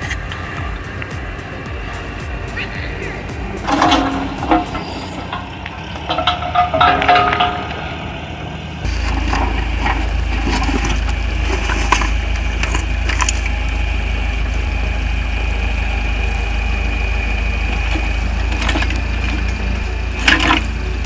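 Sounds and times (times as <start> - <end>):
heavy machinery engine drone: 0.0 - 21.0
high whine: 0.0 - 21.0.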